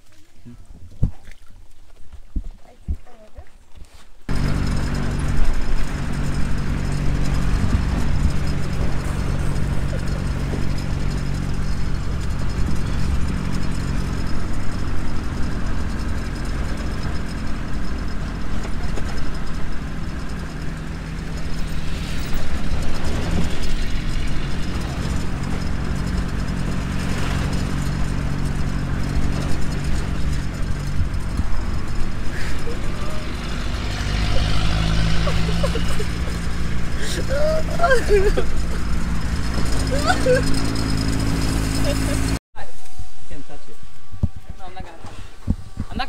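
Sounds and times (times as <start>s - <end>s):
car engine running: 4.3s - 46.0s
road noise inside car: 4.3s - 46.0s.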